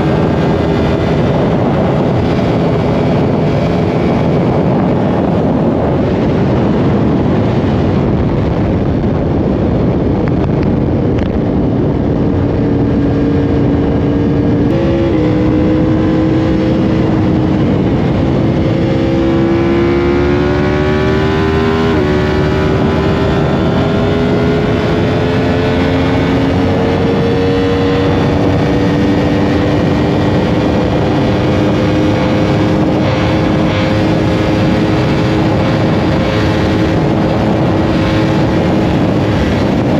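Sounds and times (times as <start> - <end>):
motorcycle engine at speed: 0.0 - 39.9
wind rush: 0.0 - 39.9.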